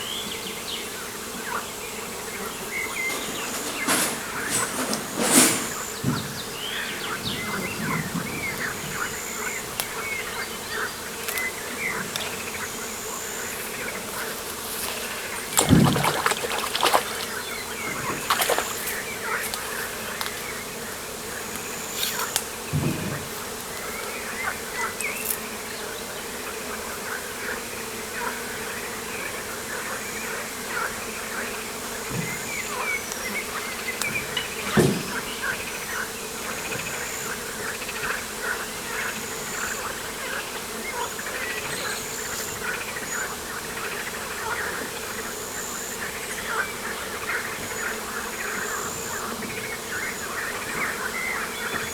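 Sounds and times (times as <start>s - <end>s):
insects buzzing: 0.0s - 51.9s.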